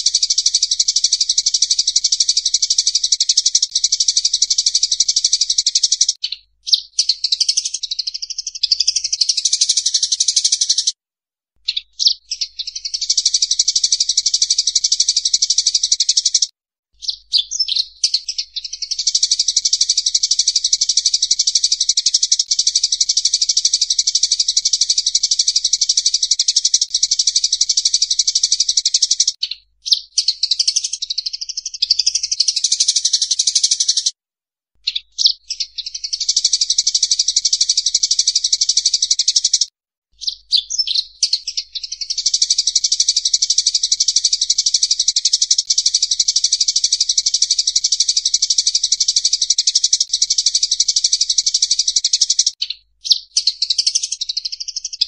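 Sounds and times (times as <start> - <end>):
sparrows chirping rapidly: 0.0 - 10.9, 11.6 - 34.1, 34.8 - 55.0.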